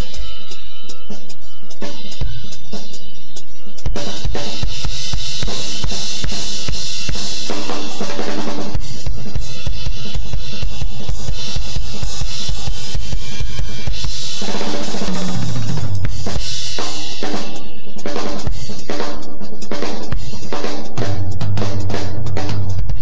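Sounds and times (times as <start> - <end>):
acoustic drum kit playing: 0.0 - 23.0
cymbals ringing: 0.0 - 23.0.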